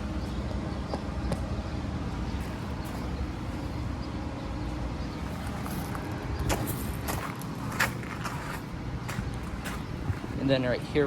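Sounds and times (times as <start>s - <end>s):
condenser units droning: 0.0s - 11.0s.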